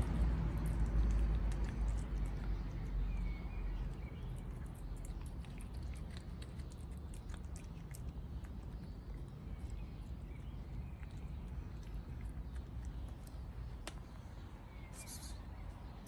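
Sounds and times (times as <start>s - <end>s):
cat chewing and licking food: 0.0s - 16.0s
low steady rumble: 0.0s - 16.0s.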